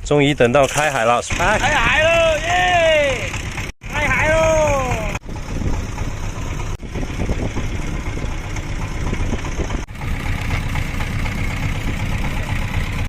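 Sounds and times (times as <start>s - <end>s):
boat engine running: 0.6s - 13.0s.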